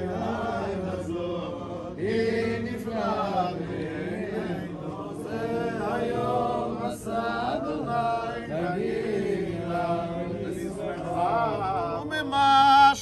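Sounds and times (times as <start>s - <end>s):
men chanting liturgy: 0.0s - 13.0s.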